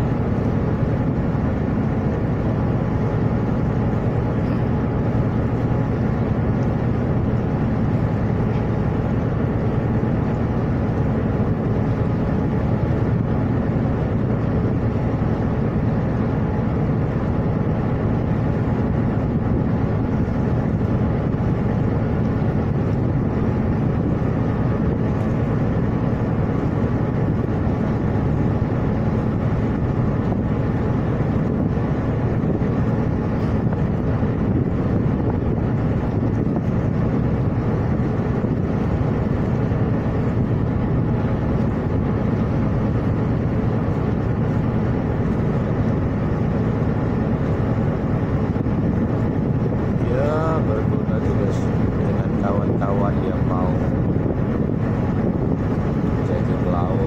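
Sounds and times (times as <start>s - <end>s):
ship engines rumbling: 0.0s - 57.0s.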